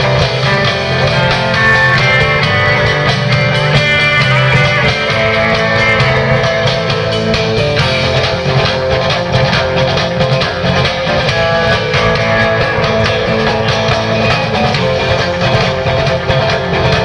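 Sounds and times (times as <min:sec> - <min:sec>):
drum beat: 0:00.0 - 0:17.0
electric guitar melody: 0:00.0 - 0:17.0.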